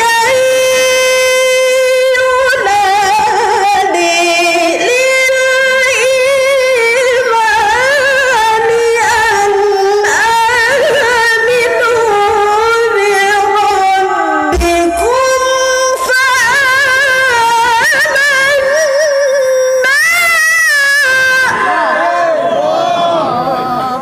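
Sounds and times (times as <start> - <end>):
woman reciting melodically: 0.0 - 21.8.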